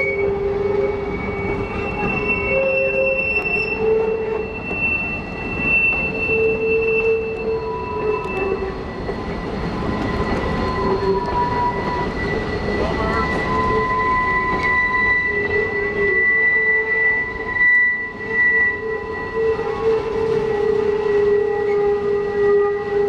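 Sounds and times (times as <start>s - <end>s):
train cars rolling rumble: 0.0s - 23.0s
train wheels squealing: 0.0s - 23.0s.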